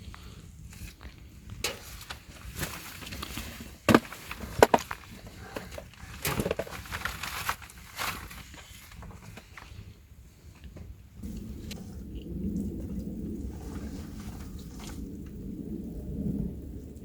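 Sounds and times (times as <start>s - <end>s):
sticks rustling and scraping: 0.0s - 12.3s, 13.4s - 15.1s
firewood cracking: 0.0s - 16.2s.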